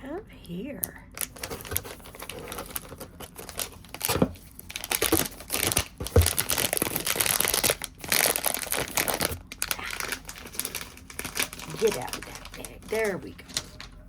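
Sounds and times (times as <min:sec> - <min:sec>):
packaging bag crinkling: 0:01.2 - 0:14.0.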